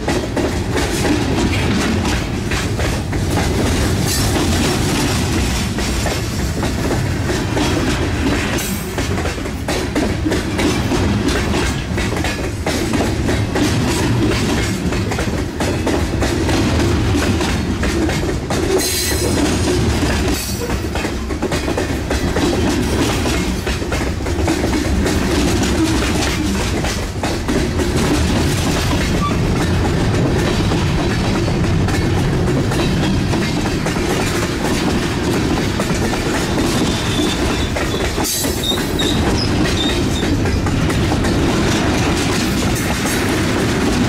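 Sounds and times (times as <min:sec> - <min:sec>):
model train wheels clicking: 0:00.0 - 0:44.0.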